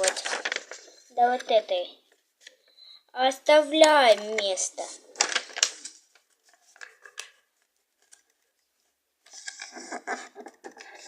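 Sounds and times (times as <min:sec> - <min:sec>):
paper rustling and crinkling: 0:00.0 - 0:02.5, 0:04.0 - 0:11.0.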